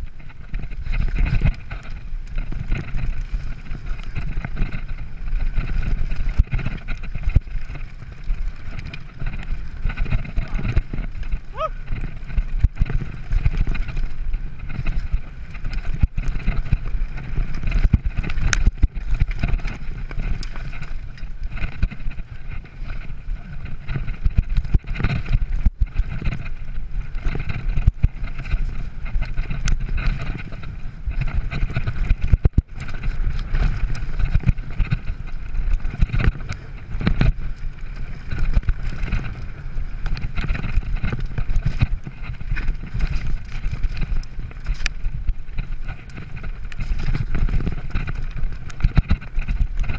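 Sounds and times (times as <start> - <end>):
bike knocks and rattles: 0.0 - 49.9
tyres rumbling on dirt trail: 0.0 - 49.9.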